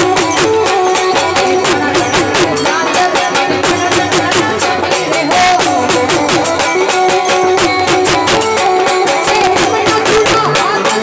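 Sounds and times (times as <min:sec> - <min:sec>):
fast percussion beat: 0:00.0 - 0:11.0
harmonium chords: 0:00.0 - 0:11.0.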